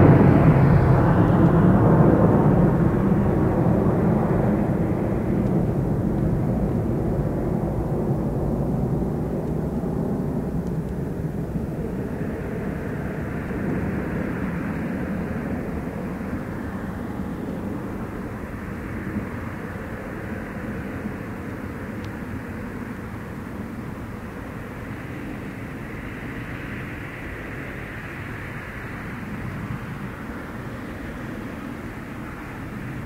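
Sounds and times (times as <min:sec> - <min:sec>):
jet engine rumble: 0:00.0 - 0:33.0.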